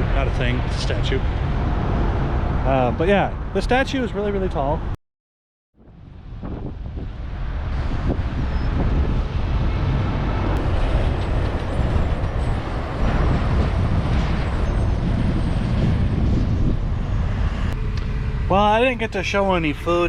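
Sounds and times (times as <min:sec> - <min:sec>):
outdoor noise: 0:00.0 - 0:05.0, 0:05.8 - 0:20.0.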